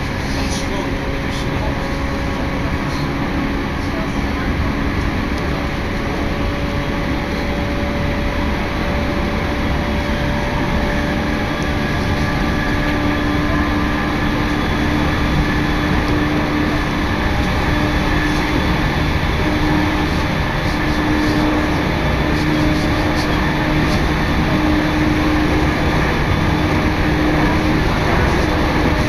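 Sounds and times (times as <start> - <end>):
train rumble and rail noise: 0.0 - 29.0.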